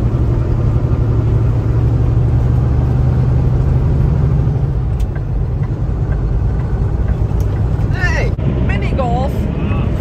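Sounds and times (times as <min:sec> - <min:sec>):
truck engine drone: 0:00.0 - 0:10.0
tyre and road noise: 0:00.0 - 0:10.0.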